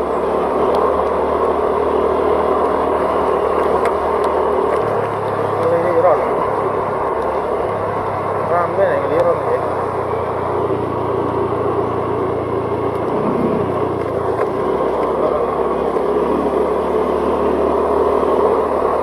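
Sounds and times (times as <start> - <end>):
road and wind noise: 0.0 - 19.0
vehicle engine running: 0.0 - 19.0.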